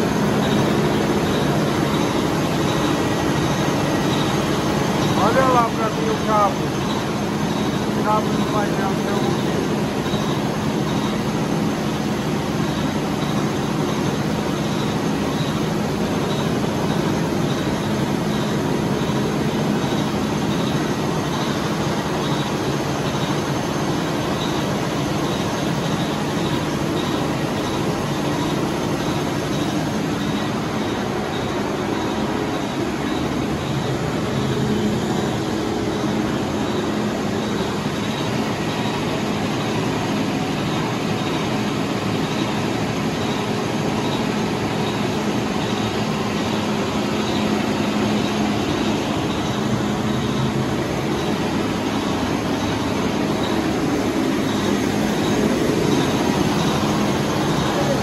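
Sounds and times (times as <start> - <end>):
water chiller droning: 0.0 - 58.0.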